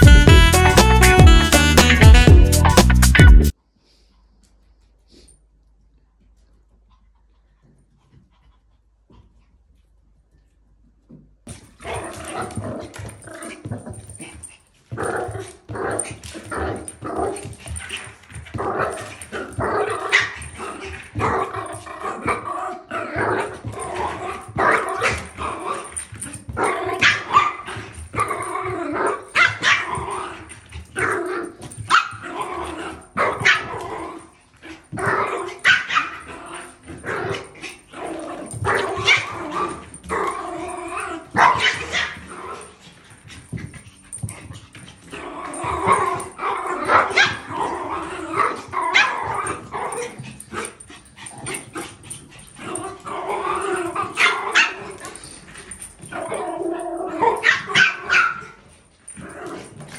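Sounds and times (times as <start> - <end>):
small dogs barking and yipping: 11.8 - 59.9.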